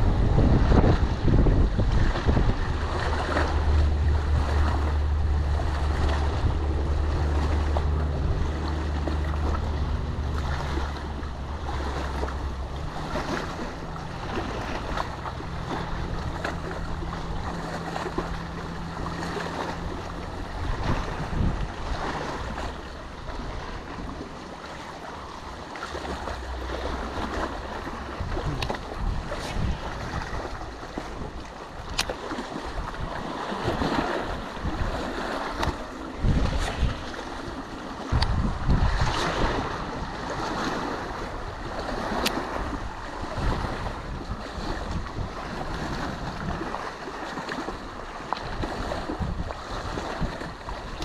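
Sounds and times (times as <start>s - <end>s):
rush of wind: 0.0s - 51.0s
small waves on choppy water: 0.0s - 51.0s
wind buffeting microphone: 0.0s - 51.0s.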